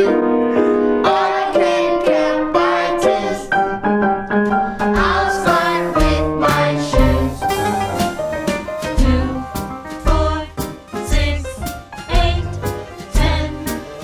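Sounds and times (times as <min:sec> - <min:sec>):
children's song with piano: 0:00.0 - 0:14.0.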